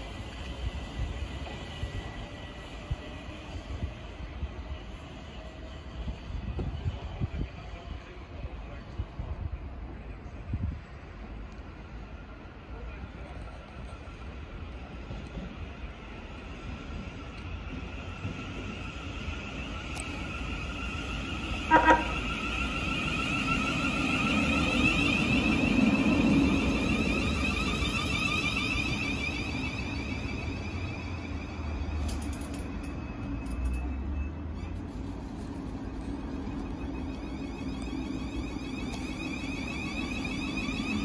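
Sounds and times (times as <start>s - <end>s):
train rumbling into platform: 0.0s - 41.0s.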